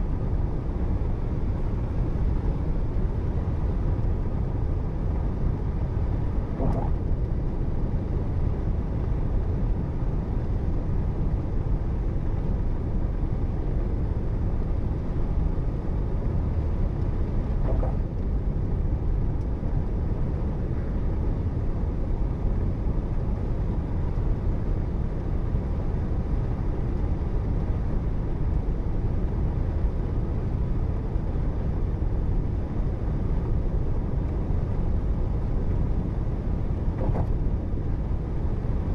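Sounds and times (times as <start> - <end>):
car driving road noise: 0.0 - 38.9.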